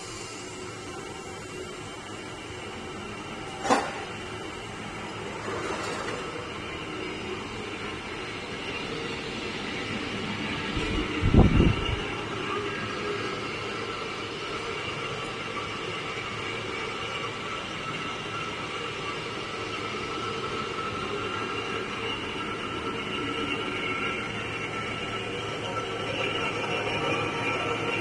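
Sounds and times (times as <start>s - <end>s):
lathe cutting noise: 0.0s - 28.0s.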